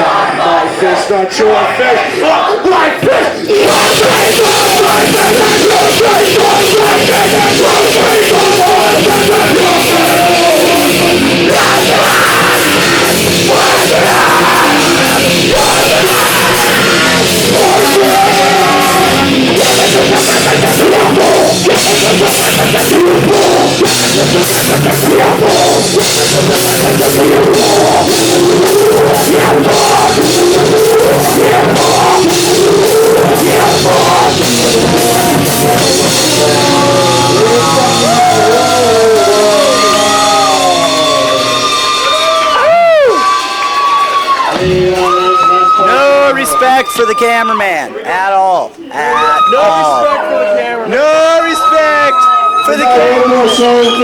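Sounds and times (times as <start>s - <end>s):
drum kit: 3.0s - 46.8s
punk rock band playing: 3.0s - 48.0s.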